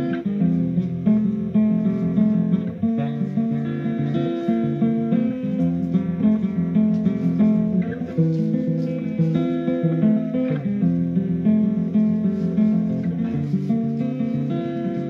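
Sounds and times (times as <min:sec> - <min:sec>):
guitar picking: 0:00.0 - 0:15.0.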